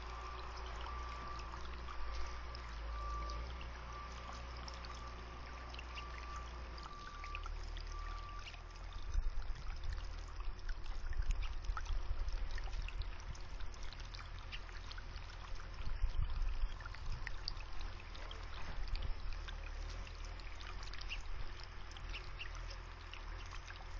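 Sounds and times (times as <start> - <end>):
fountain water bubbling over rocks: 0.0 - 23.9
low uneven rumble: 0.0 - 23.9.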